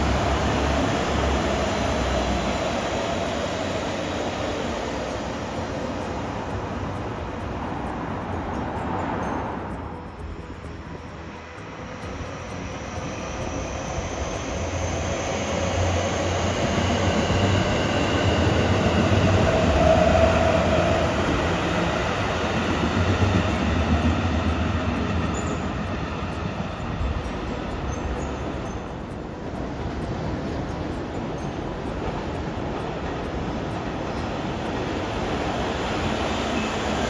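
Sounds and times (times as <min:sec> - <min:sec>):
faint steady whine: 0:00.0 - 0:37.0
train passing on rails: 0:00.0 - 0:37.0.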